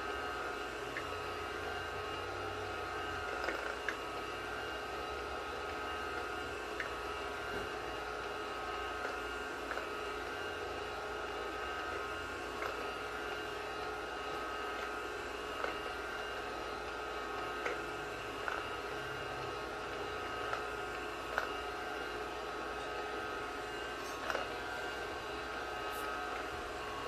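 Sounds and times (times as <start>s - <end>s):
vacuum cleaner motor hum: 0.0s - 27.0s.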